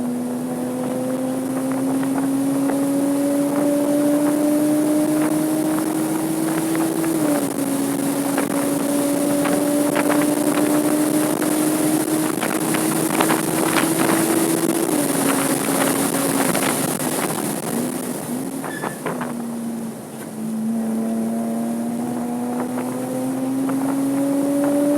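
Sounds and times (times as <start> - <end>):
car engine at high revs: 0.0 - 24.9
wind noise on microphone: 0.0 - 24.9.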